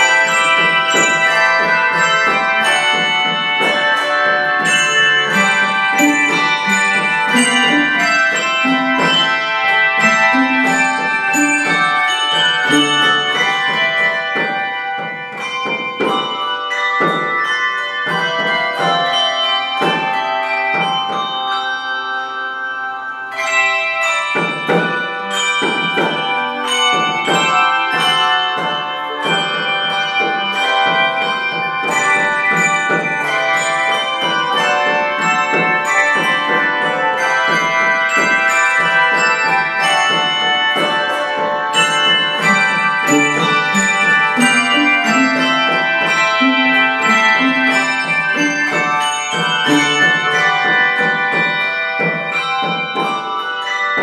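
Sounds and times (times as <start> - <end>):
handbell choir playing: 0.0 - 54.0.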